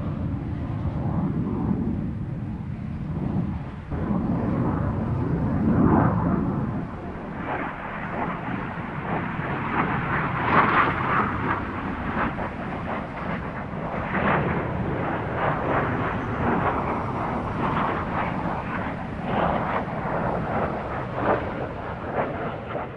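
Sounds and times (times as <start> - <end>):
jet flying past overhead: 0.0 - 22.9.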